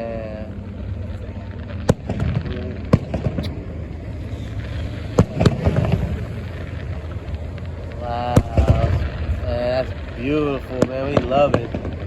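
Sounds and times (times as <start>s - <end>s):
rumble and crackle: 0.0s - 12.0s
firework shells bursting: 1.6s - 12.0s.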